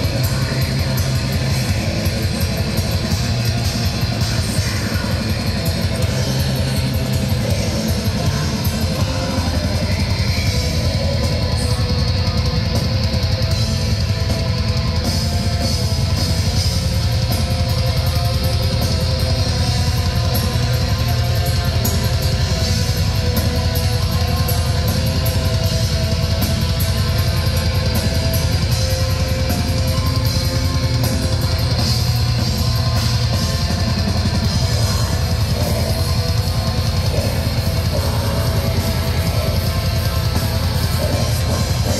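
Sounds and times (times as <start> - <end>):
distorted electric guitars: 0.0 - 41.9
fast drumming with cymbals: 0.0 - 41.9.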